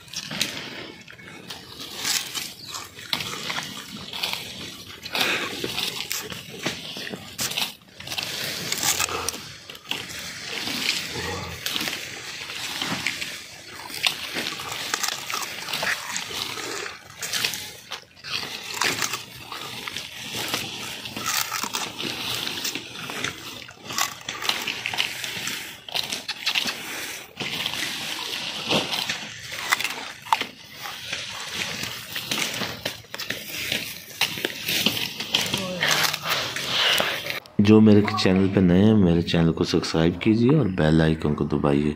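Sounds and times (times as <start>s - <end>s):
wet sucking: 0.0s - 37.5s
sugarcane crunching: 0.0s - 37.8s.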